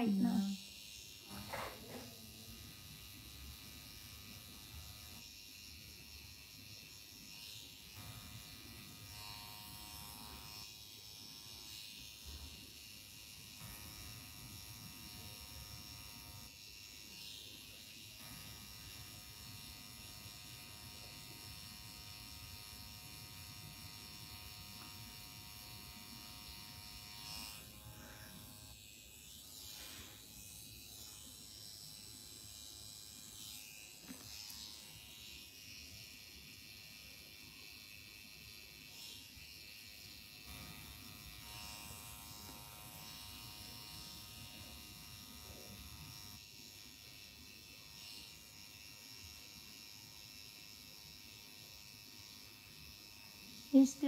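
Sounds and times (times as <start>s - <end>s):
tattoo machine buzzing: 0.0s - 54.0s.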